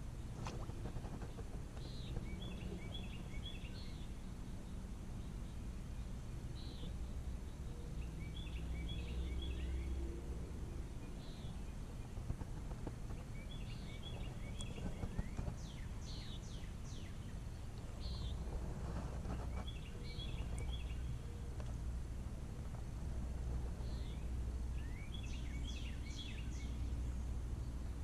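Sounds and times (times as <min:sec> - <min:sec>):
low steady rumble: 0:00.0 - 0:28.0
songbirds chirping: 0:00.0 - 0:28.0.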